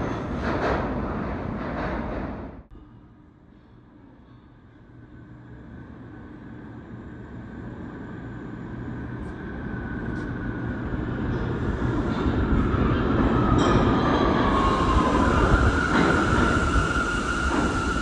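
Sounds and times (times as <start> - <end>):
subway train rumbling in tunnel: 0.0 - 18.0.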